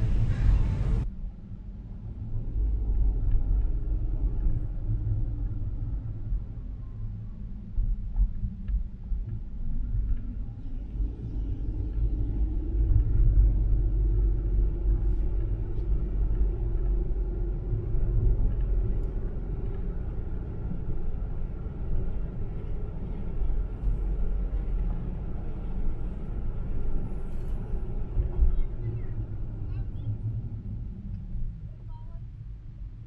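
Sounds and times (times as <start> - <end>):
car driving rumble: 0.0 - 33.0
faint steady hum: 0.0 - 33.0.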